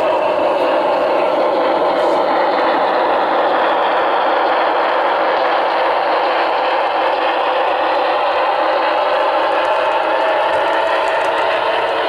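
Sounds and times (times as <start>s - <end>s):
model steam locomotive rushing: 0.0s - 12.0s.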